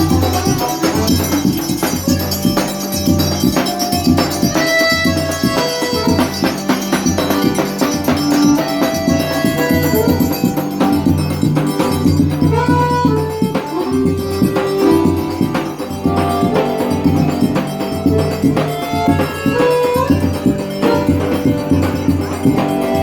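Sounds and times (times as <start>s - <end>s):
instrumental folk dance music: 0.0s - 23.0s.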